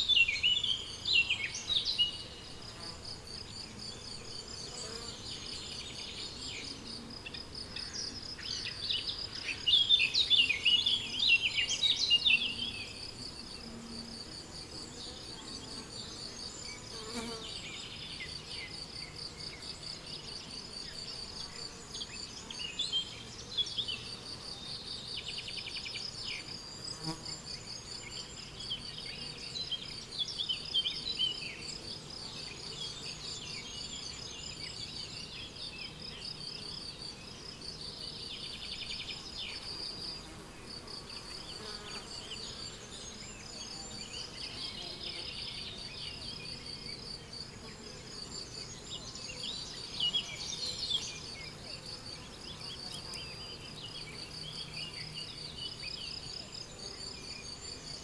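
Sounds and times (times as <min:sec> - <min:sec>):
songbirds singing: 0:00.0 - 0:13.7, 0:14.6 - 0:58.0
crickets chirping: 0:00.0 - 0:58.0.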